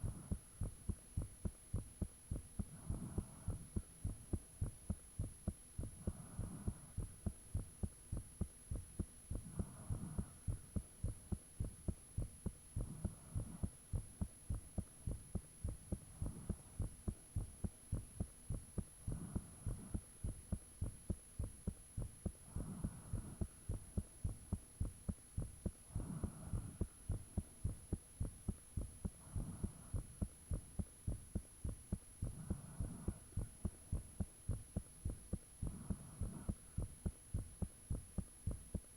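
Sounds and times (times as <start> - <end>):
heartbeat low thumps: 0.0 - 38.9.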